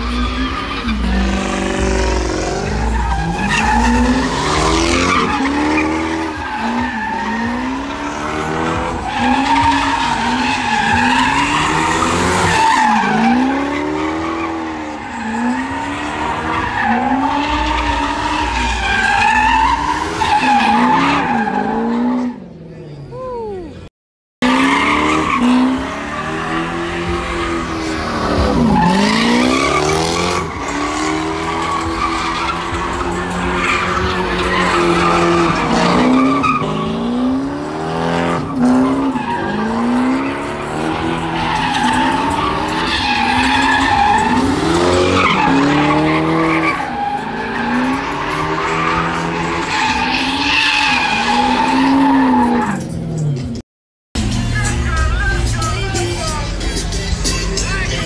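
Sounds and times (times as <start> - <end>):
car engine revving: 0.0 - 22.3, 24.4 - 53.5.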